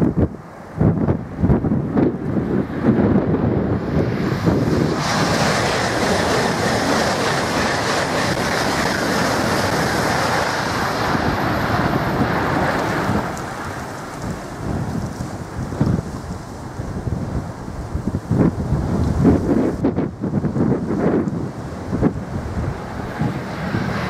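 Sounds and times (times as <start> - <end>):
high-speed train passing: 0.0 - 24.0.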